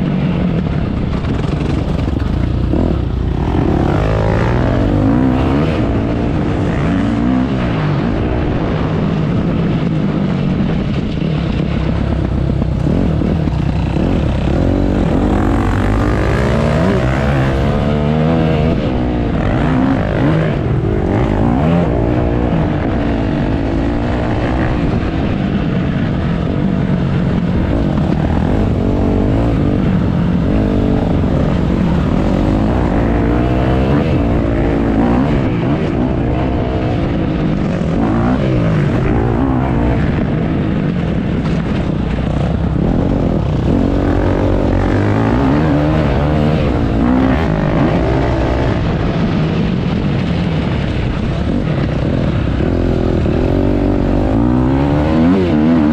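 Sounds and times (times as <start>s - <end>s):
motocross bike engine revving: 1.2s - 8.8s, 11.6s - 55.9s.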